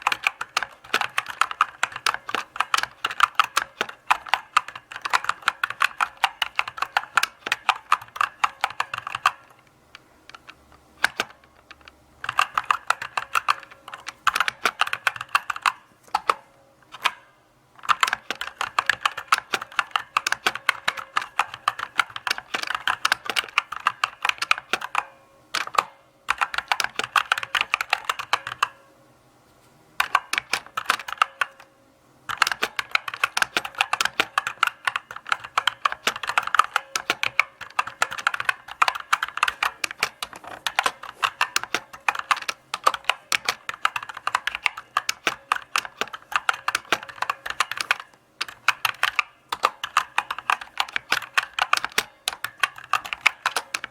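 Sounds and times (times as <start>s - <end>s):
mechanical keyboard typing: 0.0s - 17.2s, 17.8s - 28.8s, 30.0s - 31.7s, 32.3s - 53.9s.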